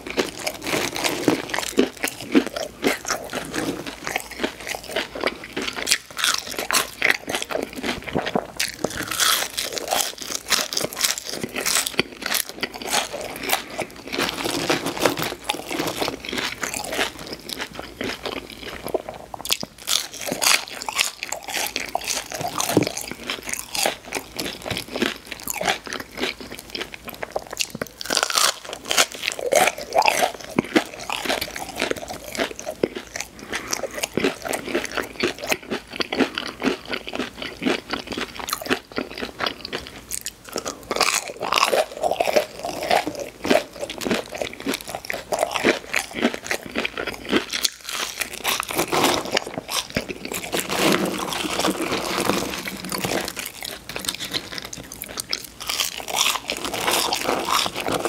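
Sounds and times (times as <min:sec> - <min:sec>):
person chewing crispy food: 0:00.0 - 0:58.0.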